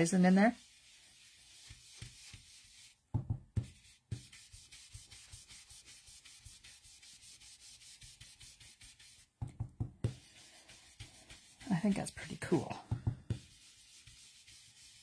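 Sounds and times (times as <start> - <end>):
brush rubbing on cardstock: 0.0 - 9.4, 10.0 - 15.0.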